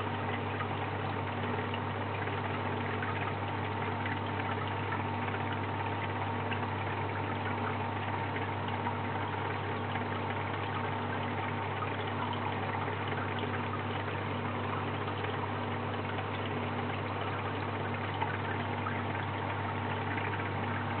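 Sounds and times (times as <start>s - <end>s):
aquarium pump humming: 0.0s - 21.0s
circulating water hiss: 0.0s - 21.0s.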